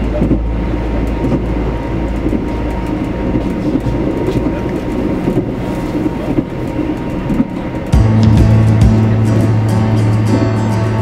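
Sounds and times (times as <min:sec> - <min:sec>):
rail clicks: 0:00.0 - 0:11.0
train wheels rumbling on track: 0:00.0 - 0:11.0.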